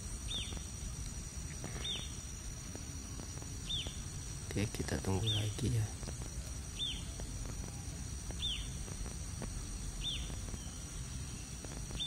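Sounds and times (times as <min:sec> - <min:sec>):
high-pitched insect drone: 0:00.0 - 0:12.0
low outdoor rumble: 0:00.0 - 0:12.0.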